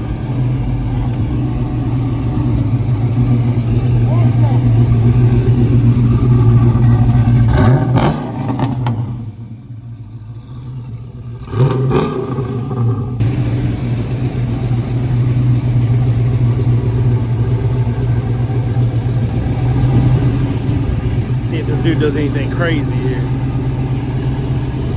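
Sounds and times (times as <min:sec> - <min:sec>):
car engine idling and revving: 0:00.0 - 0:24.9.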